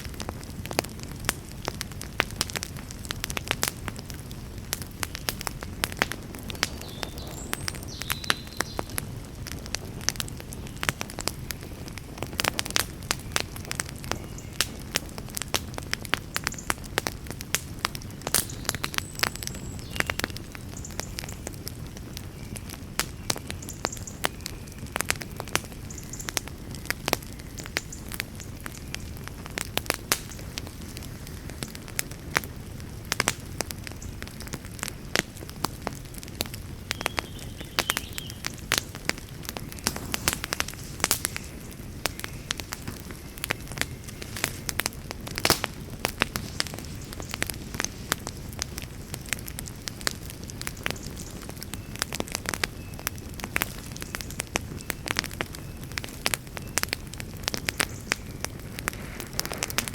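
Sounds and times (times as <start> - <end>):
low rumble of flame: 0.0 - 59.9
wood fire crackling and popping: 0.0 - 59.9.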